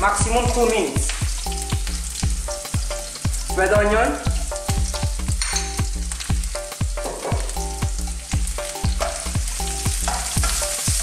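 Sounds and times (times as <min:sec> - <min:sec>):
vegetables sizzling in hot oil: 0:00.0 - 0:11.0
background music with beat and bass: 0:00.1 - 0:11.0.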